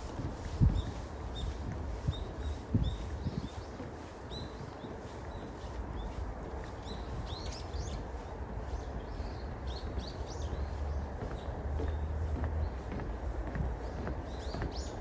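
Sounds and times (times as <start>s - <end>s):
small birds chirping: 0.6s - 15.0s.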